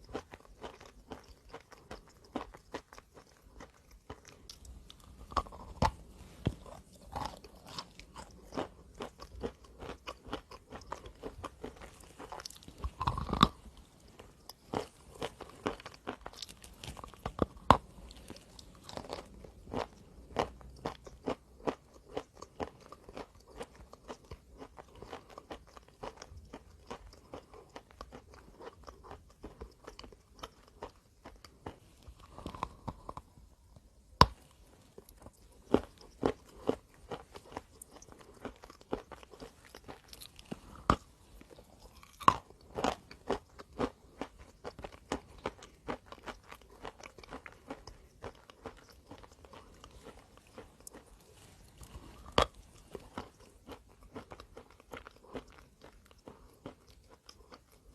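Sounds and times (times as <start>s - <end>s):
chalk crunching being chewed: 0.0s - 57.9s.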